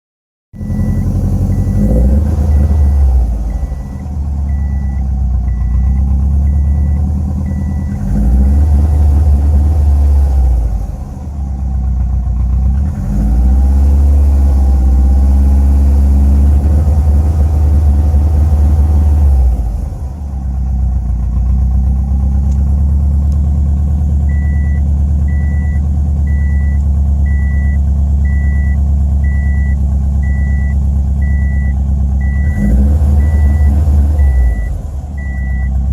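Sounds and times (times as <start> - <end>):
car engine idling roughly: 0.6 - 13.4, 16.5 - 35.9.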